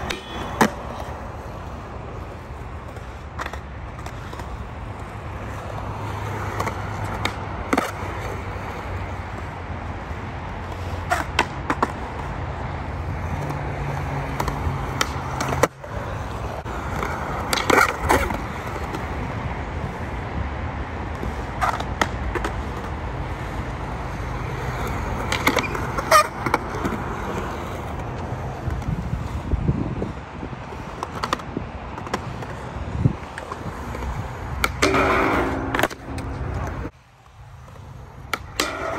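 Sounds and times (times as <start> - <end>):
skateboard clacking: 0.0 - 20.2, 20.8 - 38.9
skateboard wheels rolling on concrete: 0.0 - 38.9.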